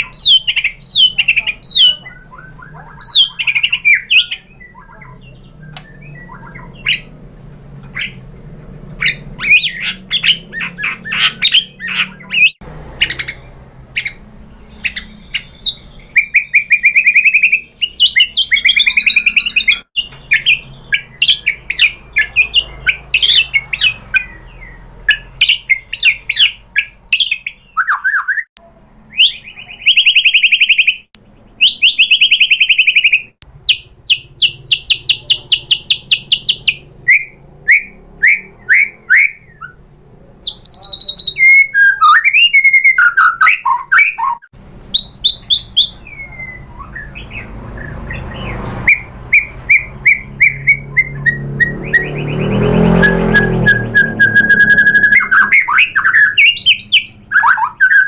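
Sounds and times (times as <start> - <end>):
songbird singing with trills: 0.0 - 39.8, 40.4 - 58.0.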